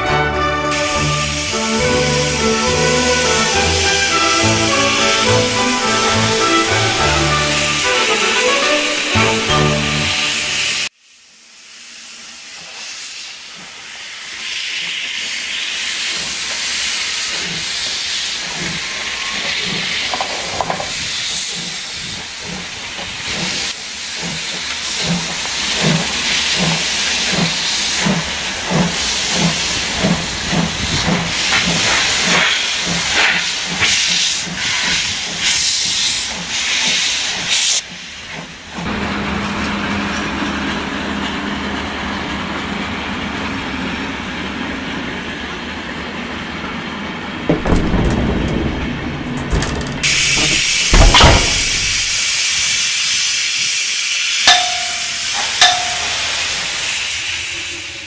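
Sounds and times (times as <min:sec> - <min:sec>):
steam locomotive chuffing: 0:00.0 - 0:10.9, 0:11.6 - 0:58.0
train rolling: 0:00.0 - 0:10.9, 0:12.2 - 0:58.0
steam hissing: 0:00.4 - 0:39.0, 0:50.0 - 0:58.0.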